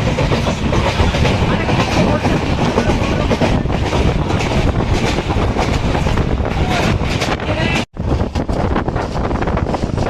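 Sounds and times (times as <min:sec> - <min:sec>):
train wheels rumbling and rattling: 0:00.0 - 0:10.0.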